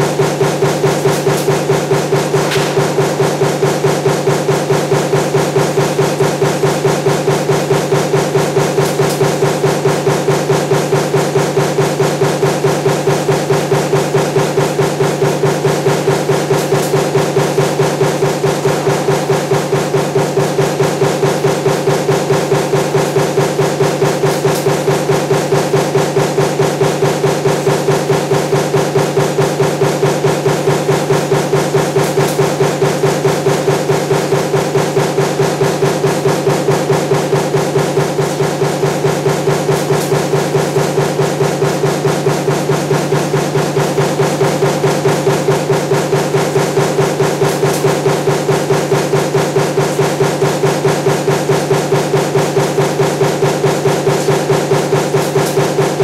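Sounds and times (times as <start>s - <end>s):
punch press striking: 0.0s - 56.0s
steady mechanical hum: 0.0s - 56.0s.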